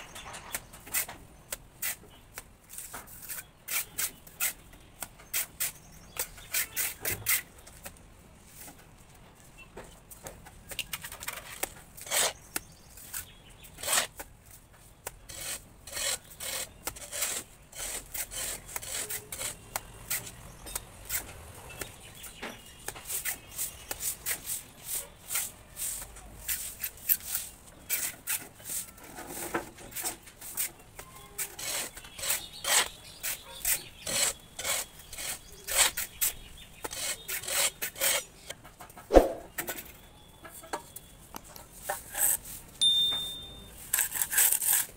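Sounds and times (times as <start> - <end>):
trowel scraping plaster on brick: 0.4 - 7.6, 10.8 - 14.3, 15.1 - 38.6, 41.7 - 42.6, 43.8 - 44.9.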